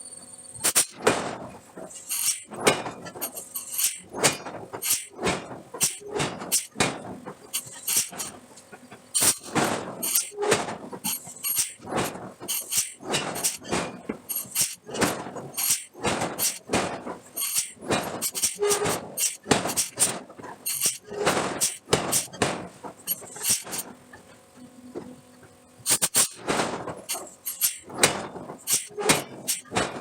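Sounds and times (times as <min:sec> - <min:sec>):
steel clanking and scraping: 0:00.6 - 0:30.0.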